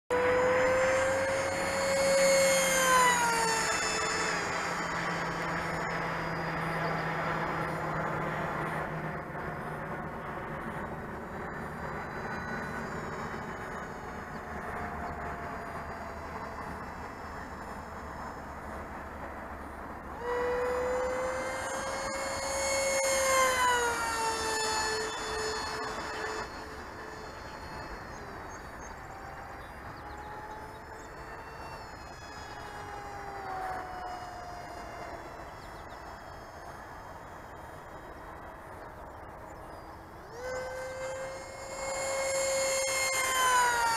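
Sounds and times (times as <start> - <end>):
distant model airplane motor whine: 0.0 - 43.9.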